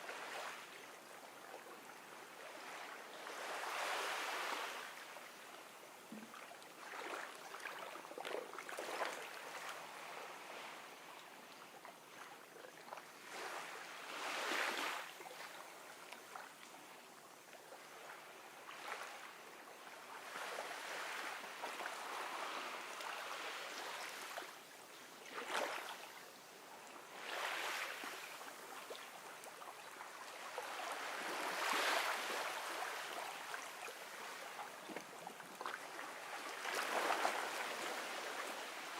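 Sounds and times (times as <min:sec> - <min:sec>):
small waves washing onto beach: 0:00.0 - 0:38.9.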